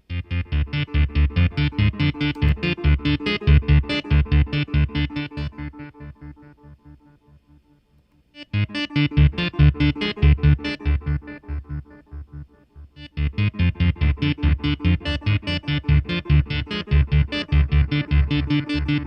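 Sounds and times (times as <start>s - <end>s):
synthesizer notes with delay echo: 0.0s - 7.8s, 8.4s - 19.0s.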